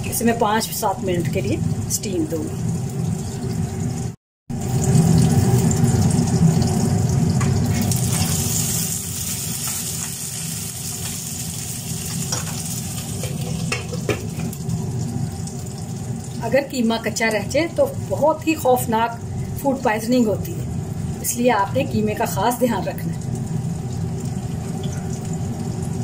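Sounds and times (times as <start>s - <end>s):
meat sizzling in a frying pan: 4.5s - 26.0s.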